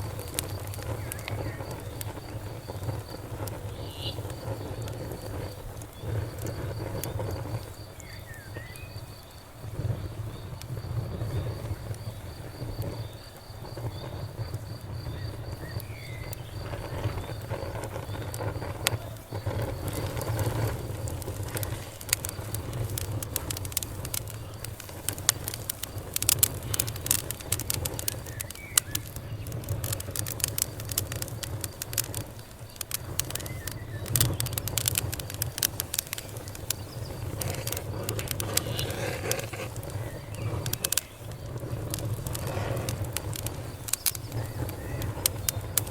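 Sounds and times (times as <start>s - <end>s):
insect trilling: 0.0s - 9.4s, 10.0s - 45.9s
campfire crackling and popping: 0.0s - 45.9s.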